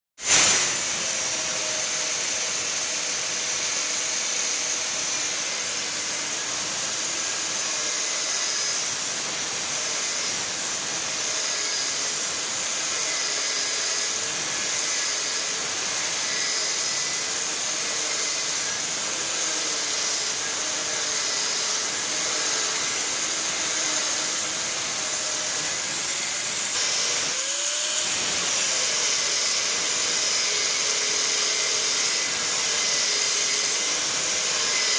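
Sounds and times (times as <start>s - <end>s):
grinder cutting steel: 0.2s - 34.9s.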